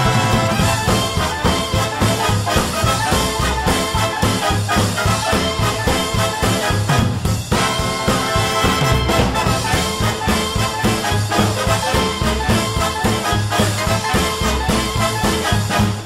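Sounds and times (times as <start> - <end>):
brass music with steady beat: 0.0 - 16.0.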